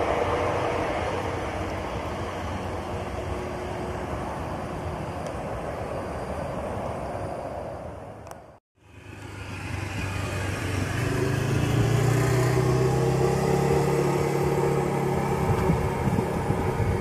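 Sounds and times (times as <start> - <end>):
jet engines droning and whining: 0.0 - 17.0.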